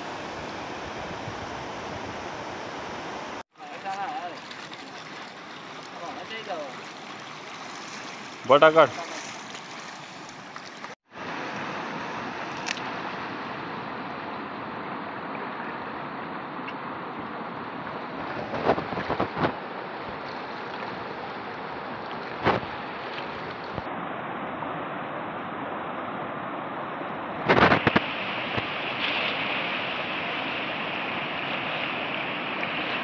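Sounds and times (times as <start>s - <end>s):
shallow river rushing: 0.0s - 33.0s.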